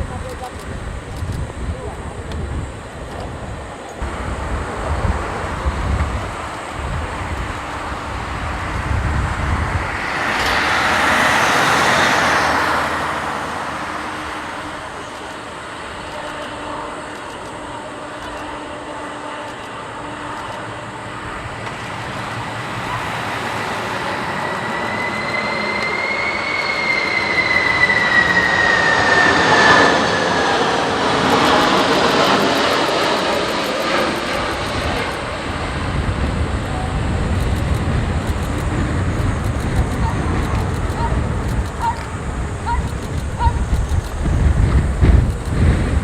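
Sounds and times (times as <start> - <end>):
jet engines roaring: 0.0 - 46.0
jet fan whine: 0.0 - 46.0.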